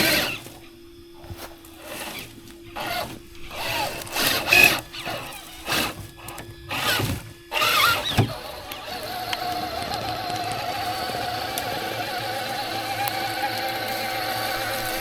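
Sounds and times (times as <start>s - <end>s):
rc car motor whirring: 0.0s - 15.0s.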